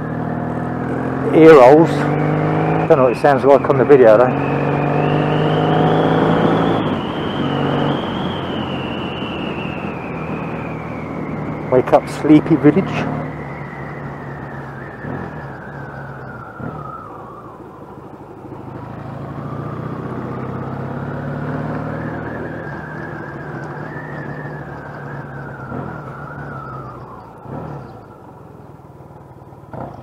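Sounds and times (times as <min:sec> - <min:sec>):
motorcycle engine running: 0:00.0 - 0:08.0, 0:10.2 - 0:30.0.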